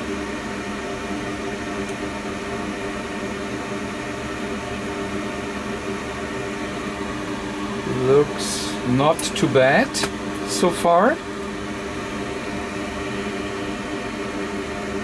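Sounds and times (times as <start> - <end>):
equipment hum and whir: 0.0 - 15.0.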